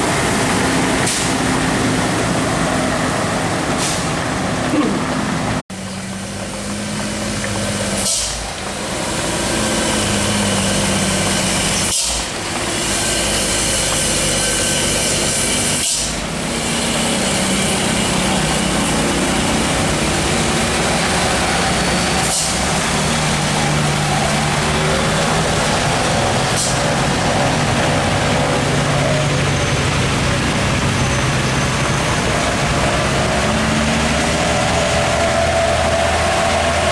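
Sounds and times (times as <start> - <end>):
diesel truck engine climbing: 0.0 - 36.9.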